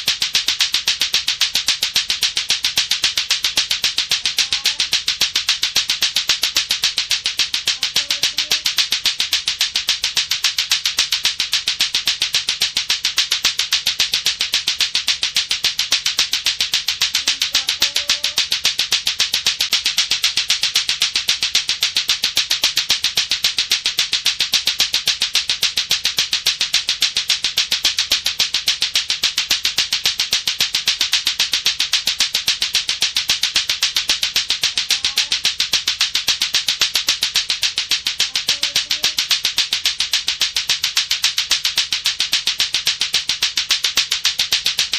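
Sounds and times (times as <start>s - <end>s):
clacker toy balls clacking: 0.0s - 44.9s.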